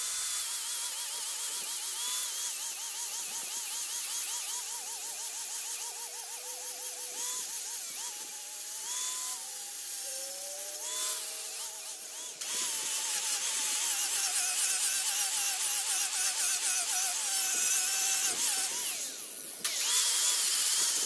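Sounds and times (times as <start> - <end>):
abrasive disc sanding wood: 0.0 - 21.0
angle grinder motor whine: 0.0 - 21.0.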